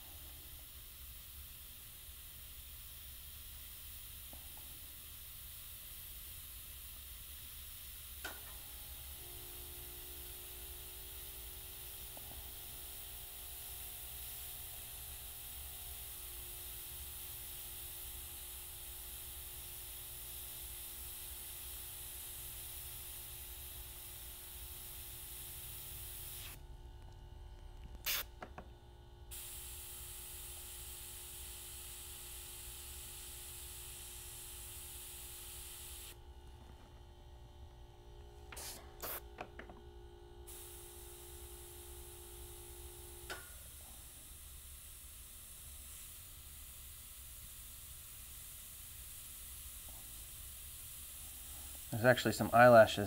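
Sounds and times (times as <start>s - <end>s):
airbrush air hiss: 0.0s - 26.6s, 28.0s - 28.3s, 29.3s - 36.2s, 38.4s - 39.3s, 40.5s - 53.0s.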